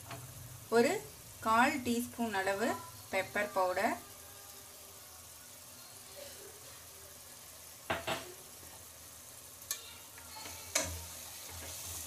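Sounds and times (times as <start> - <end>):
gravy sizzling in pot: 0.0 - 12.0.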